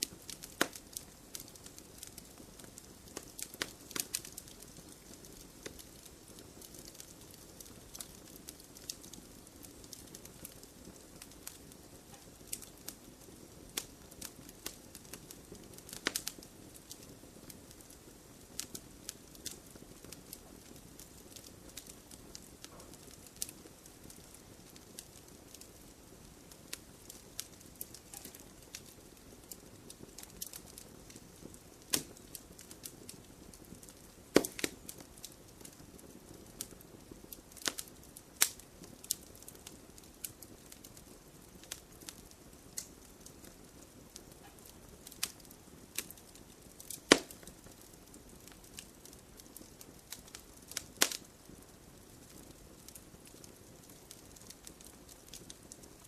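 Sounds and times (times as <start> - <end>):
burning wood crackling and popping: 0.0 - 56.0
campfire flame hissing: 0.0 - 56.0.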